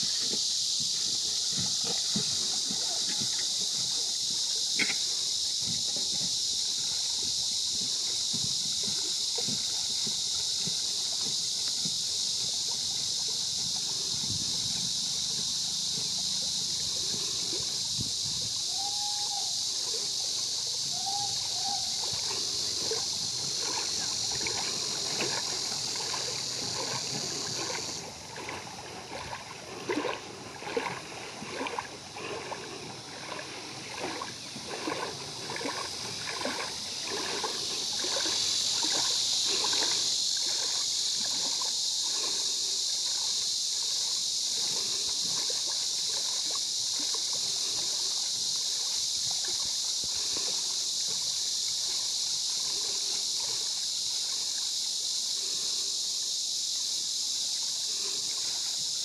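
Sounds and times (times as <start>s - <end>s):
steady high hiss: 0.0s - 28.3s, 35.1s - 59.0s
water splashing: 0.0s - 55.9s.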